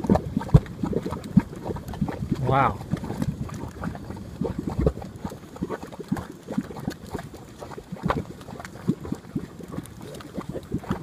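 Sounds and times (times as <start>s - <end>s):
mud pot bubbling and popping: 0.0s - 11.0s.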